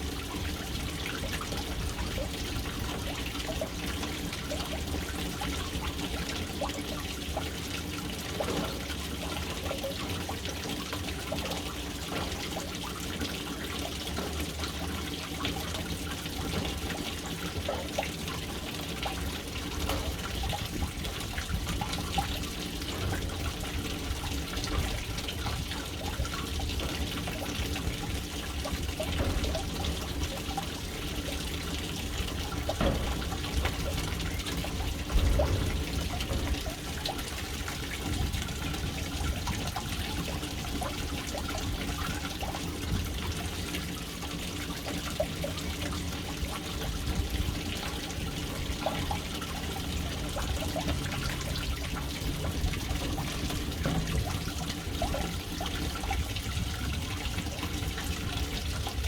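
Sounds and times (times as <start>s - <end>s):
water splashing into a tank: 0.0s - 59.0s.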